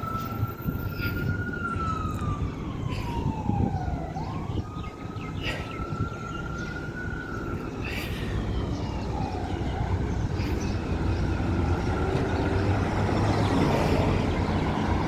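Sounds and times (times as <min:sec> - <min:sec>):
emergency vehicle siren wailing: 0:00.0 - 0:15.0
low rumble of traffic: 0:00.0 - 0:15.0.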